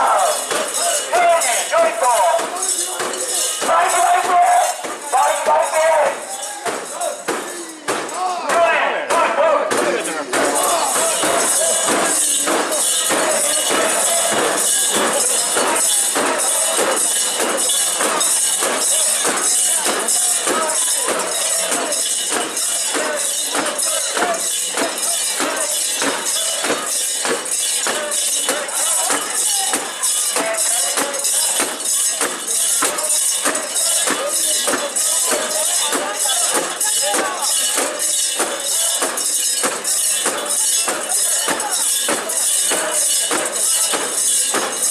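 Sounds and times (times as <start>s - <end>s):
metal rings jangling: 0.0s - 8.4s, 9.8s - 44.9s
people chanting: 0.0s - 44.9s.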